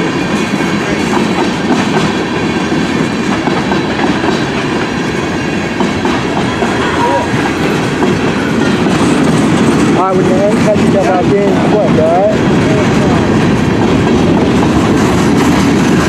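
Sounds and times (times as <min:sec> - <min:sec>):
freight train wheels clattering: 0:00.0 - 0:16.0.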